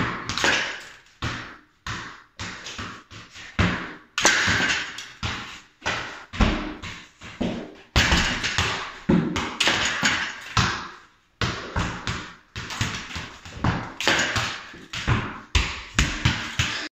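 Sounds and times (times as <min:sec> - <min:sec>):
balls bouncing on wooden floor: 0:00.0 - 0:16.9.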